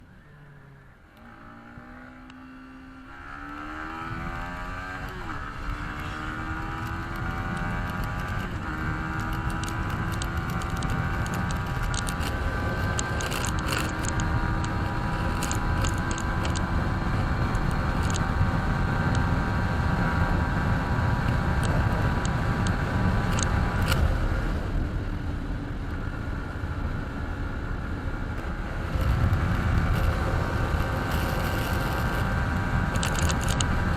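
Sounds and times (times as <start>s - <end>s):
motorcycle engine accelerating: 0.6s - 33.9s.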